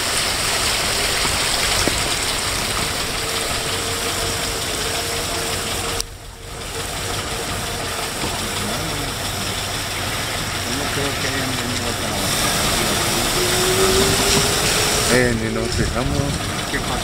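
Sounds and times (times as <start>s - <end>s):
car engine running: 0.0s - 17.0s
tyres hissing on wet road: 0.0s - 17.0s.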